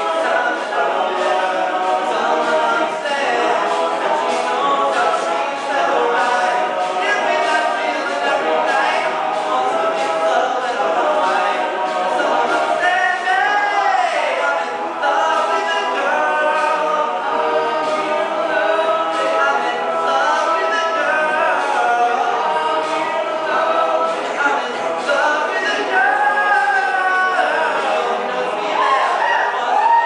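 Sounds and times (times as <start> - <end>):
male group backing harmonies: 0.0 - 30.0.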